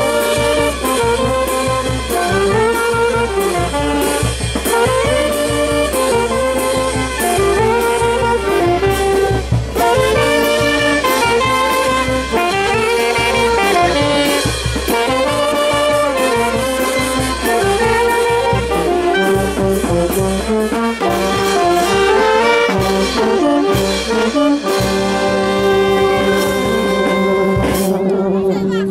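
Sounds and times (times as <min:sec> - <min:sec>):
brass band playing dance tune: 0:00.0 - 0:28.9.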